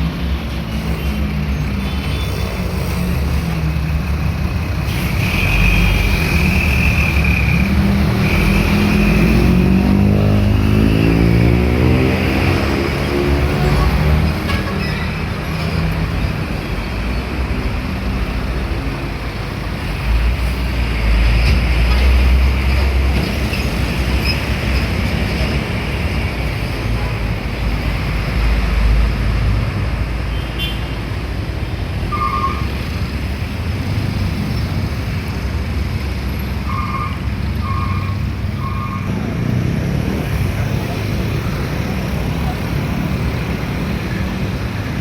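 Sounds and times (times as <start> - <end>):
heavy road traffic: 0.0 - 45.0.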